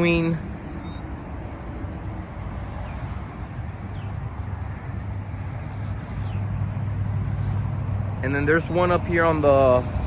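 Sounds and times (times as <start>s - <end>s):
low engine hum: 0.0s - 10.0s
road traffic noise: 0.0s - 10.0s.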